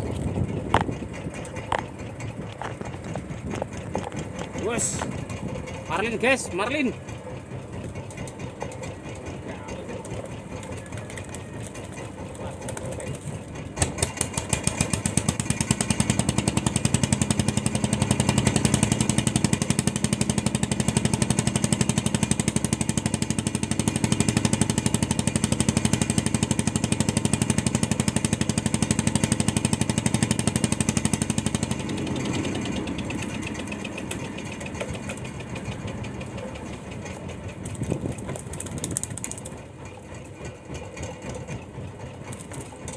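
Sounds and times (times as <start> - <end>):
boat engine running: 0.0 - 42.9
rapid loud clatter: 0.0 - 42.9.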